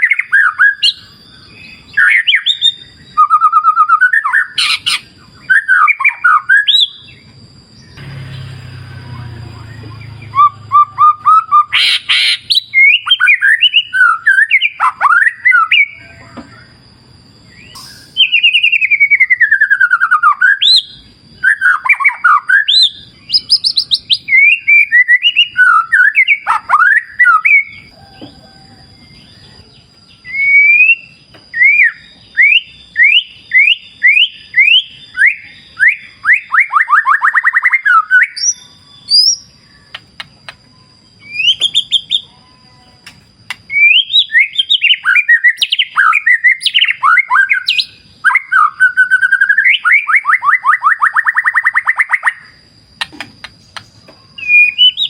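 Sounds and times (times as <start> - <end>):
bird singing whistled phrases: 0.0 - 8.0, 8.7 - 16.8, 17.4 - 55.0.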